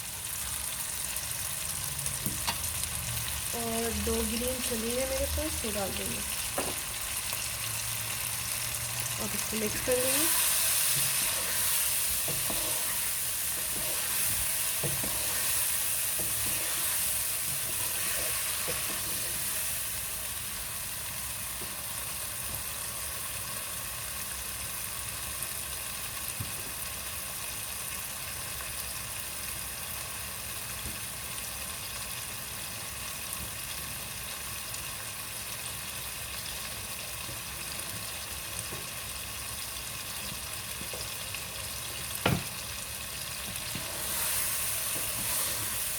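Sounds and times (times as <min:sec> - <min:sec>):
food sizzling in oil: 0:00.0 - 0:45.9.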